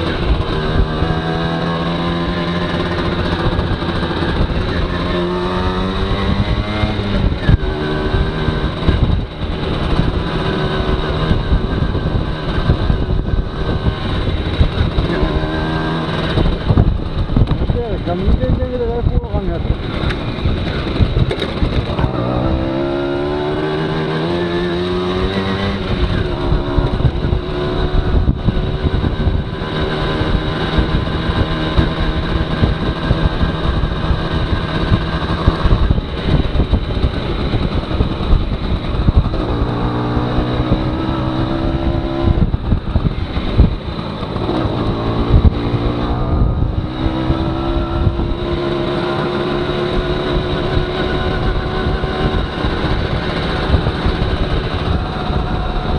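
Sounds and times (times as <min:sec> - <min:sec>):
moped two-stroke engine: 0:00.0 - 0:55.9
wind and road noise: 0:00.0 - 0:55.9.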